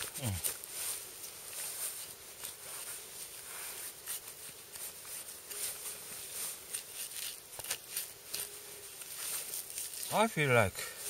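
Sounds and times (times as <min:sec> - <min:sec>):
knife scraping hide and fur: 0:00.0 - 0:11.0.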